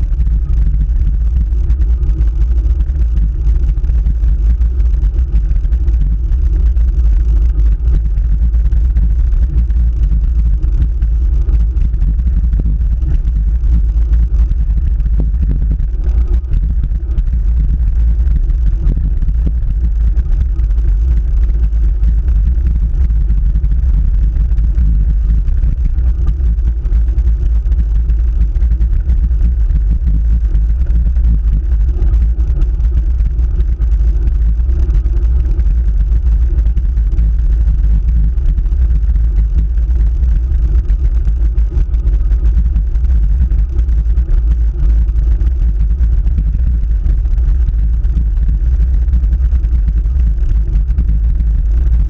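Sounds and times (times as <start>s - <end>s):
road vibration rumble: 0.0s - 52.0s.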